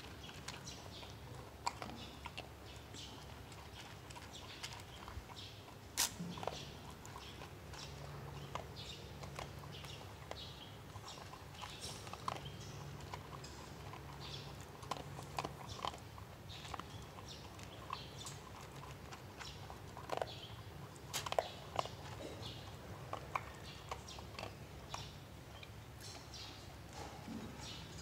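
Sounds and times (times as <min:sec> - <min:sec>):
dog chewing food: 0:00.0 - 0:28.0.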